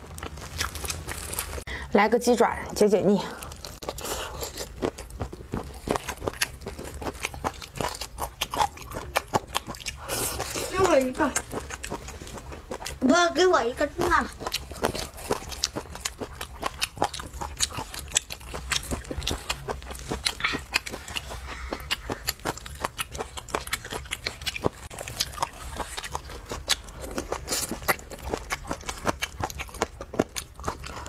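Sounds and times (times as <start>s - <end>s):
wet chewing and crunching: 0.0s - 1.7s, 2.5s - 31.0s.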